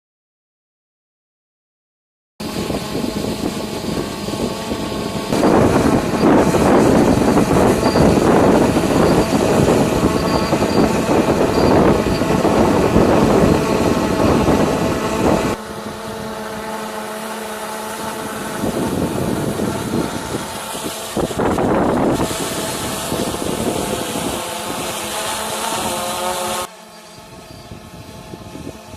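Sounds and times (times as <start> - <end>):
wind buffeting microphone: 2.4 - 16.8, 17.6 - 28.9
quadcopter propellers humming: 2.4 - 28.9.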